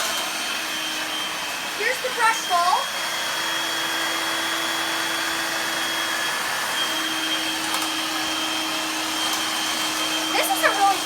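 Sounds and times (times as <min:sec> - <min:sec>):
stick vacuum running: 0:00.0 - 0:11.0.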